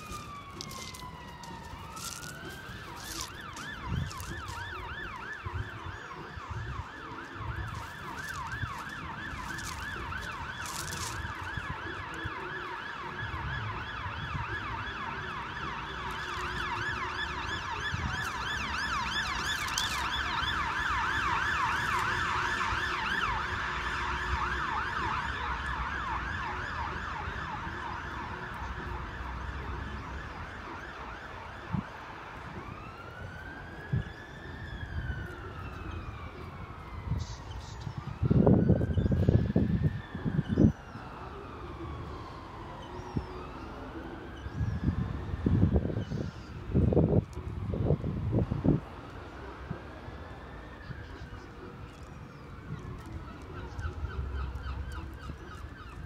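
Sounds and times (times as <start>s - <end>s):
emergency vehicle siren: 0.0s - 56.0s.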